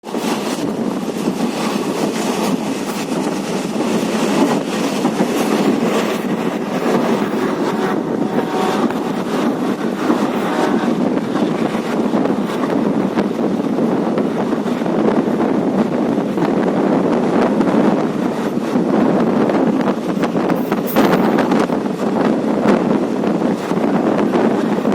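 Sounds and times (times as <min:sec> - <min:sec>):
train rumbling on track: 0:00.0 - 0:24.9.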